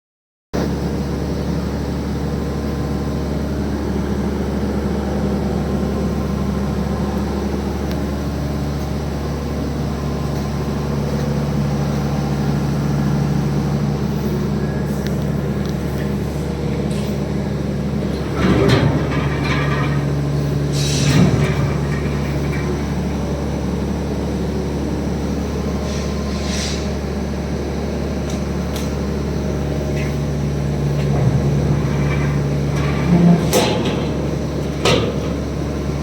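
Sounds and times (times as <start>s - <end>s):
factory machinery hum: 0.6s - 36.0s.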